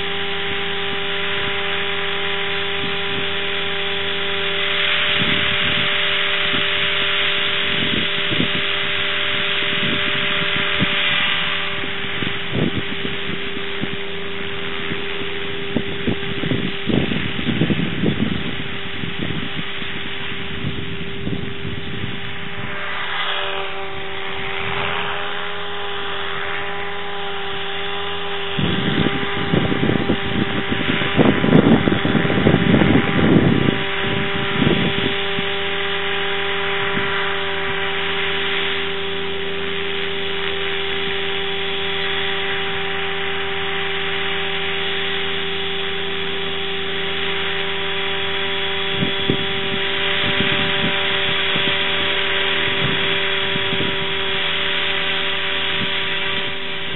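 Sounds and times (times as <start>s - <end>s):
motor humming: 0.0s - 56.9s
rough irregular low rumbling: 0.0s - 56.9s.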